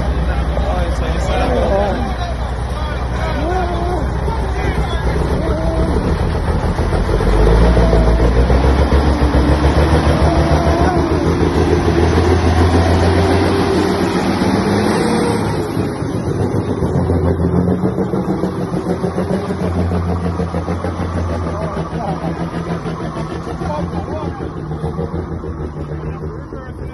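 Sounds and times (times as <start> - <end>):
diesel truck engine rumbling: 0.0 - 26.9.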